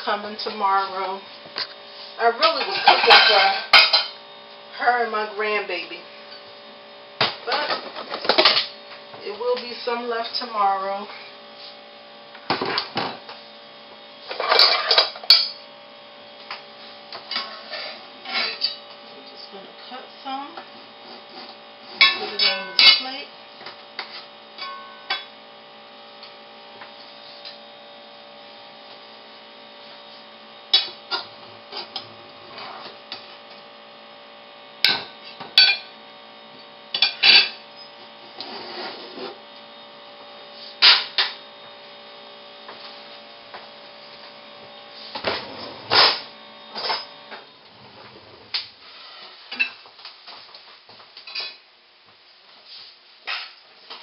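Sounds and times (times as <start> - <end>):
steady hum: 0.0 - 50.4.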